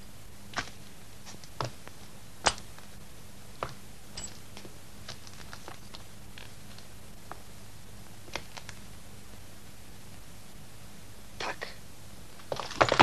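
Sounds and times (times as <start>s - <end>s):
film soundtrack hiss and hum: 0.0s - 13.0s.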